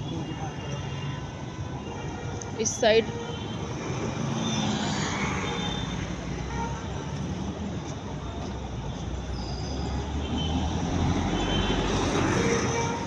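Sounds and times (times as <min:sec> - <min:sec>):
heavy road traffic: 0:00.0 - 0:13.0.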